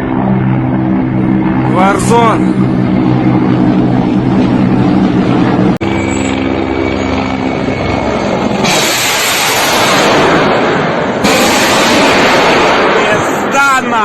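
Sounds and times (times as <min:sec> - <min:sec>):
helicopter rotors droning: 0:00.0 - 0:14.0.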